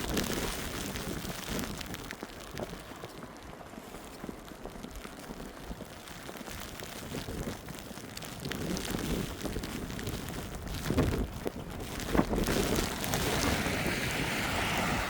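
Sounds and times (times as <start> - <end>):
footsteps crunching in snow: 0.0 - 15.0
wind buffeting microphone: 0.0 - 15.0.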